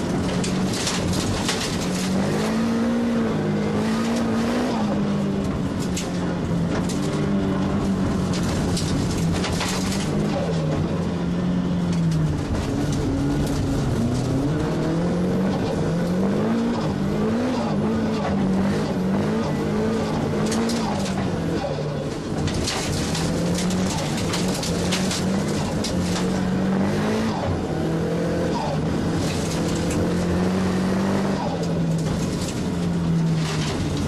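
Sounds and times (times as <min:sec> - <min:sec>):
race car engine revving: 0:00.0 - 0:34.0
tyre and road noise: 0:00.0 - 0:34.0.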